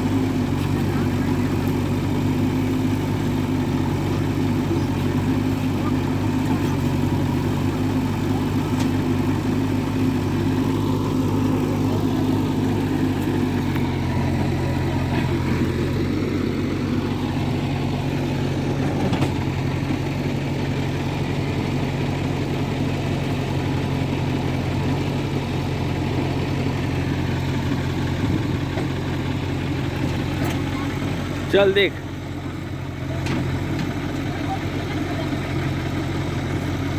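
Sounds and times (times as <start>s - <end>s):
diesel engine running at low revs: 0.0s - 36.9s.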